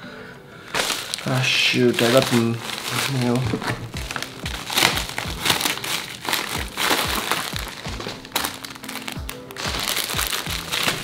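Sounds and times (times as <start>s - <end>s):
background music with steady beat: 0.0s - 11.0s
paper mailer crinkling: 0.7s - 11.0s.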